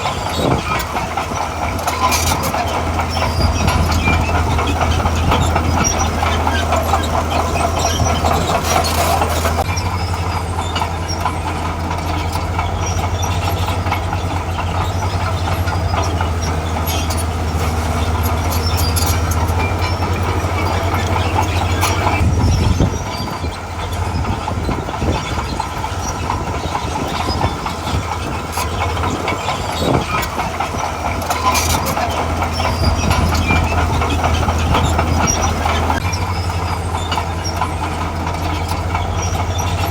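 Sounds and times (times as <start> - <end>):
diesel engine under load: 0.0 - 39.9
steel crawler tracks clattering: 0.0 - 39.9.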